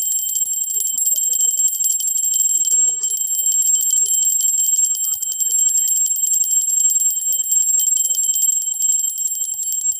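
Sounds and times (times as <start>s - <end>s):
small bell ringing rapidly: 0.0s - 9.9s.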